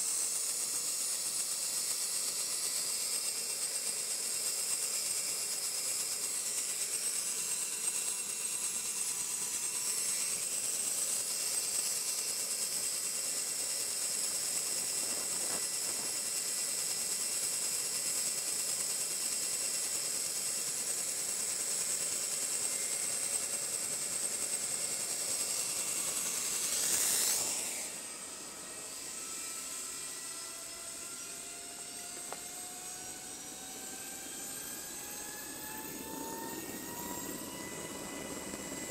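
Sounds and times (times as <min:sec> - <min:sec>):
helicopter turbine engines whining: 0:00.0 - 0:38.9.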